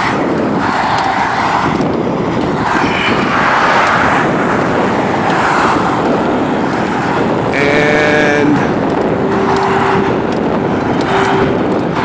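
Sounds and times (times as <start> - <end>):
freeway traffic noise: 0.0 - 12.0
wind buffeting microphone: 0.0 - 12.0.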